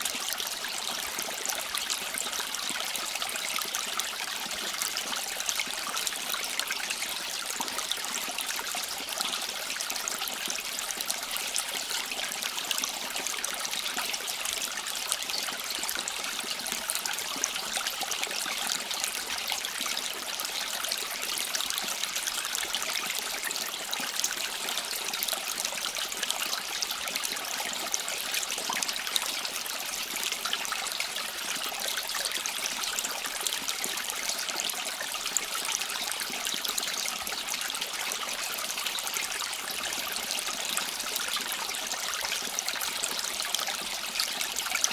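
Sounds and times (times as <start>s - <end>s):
stream water babbling: 0.0s - 44.9s.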